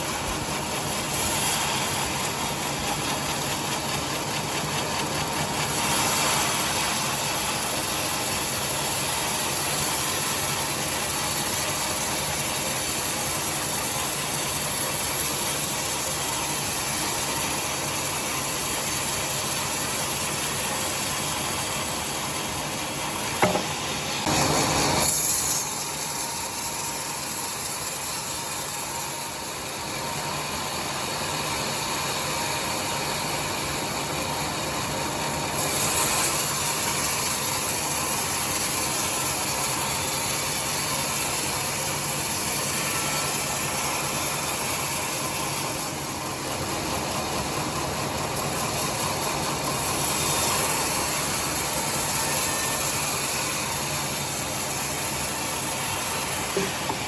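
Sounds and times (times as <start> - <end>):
sawmill saw ripping timber: 0.0 - 29.9, 35.5 - 57.0.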